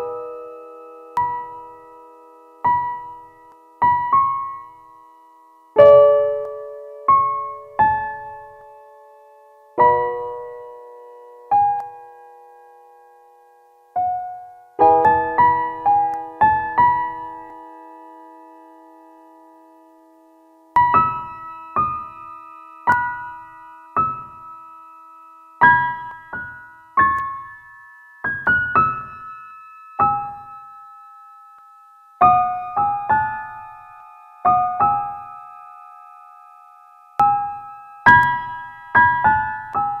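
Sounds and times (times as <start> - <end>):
slow piano music: 0.0 - 40.0.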